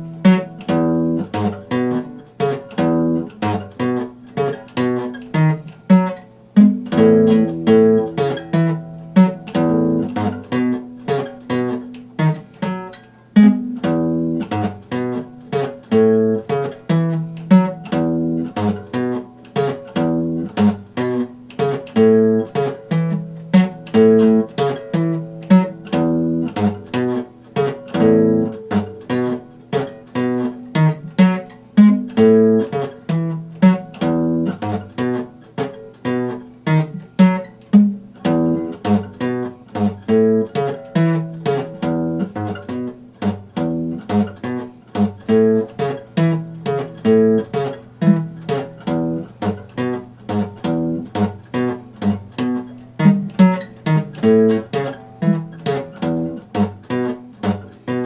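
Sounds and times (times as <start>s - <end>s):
acoustic guitar chords: 0.0s - 58.0s.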